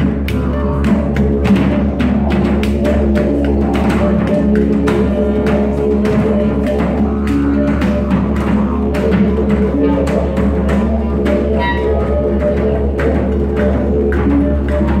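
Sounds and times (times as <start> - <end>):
didgeridoo drone: 0.0 - 15.0
hand percussion strikes: 0.0 - 15.0
wind instrument melody: 0.0 - 15.0.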